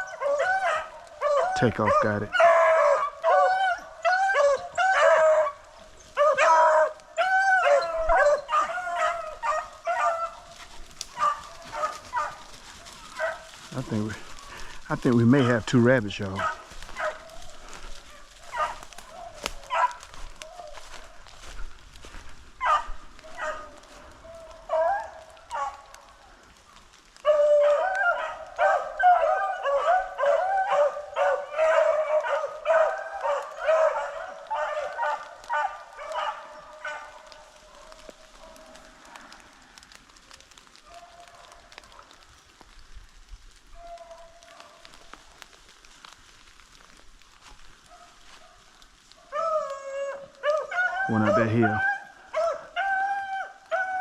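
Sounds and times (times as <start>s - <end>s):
hounds baying and barking: 0.0s - 42.5s, 43.6s - 54.0s.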